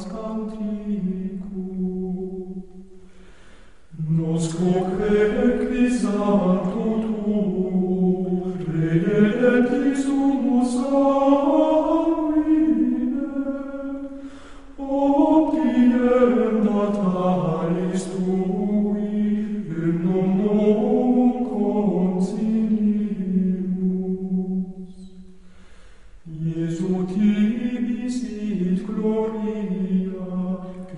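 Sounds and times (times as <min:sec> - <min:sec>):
choir singing plainchant in unison: 0:00.0 - 0:02.8, 0:04.0 - 0:25.2, 0:26.3 - 0:30.9.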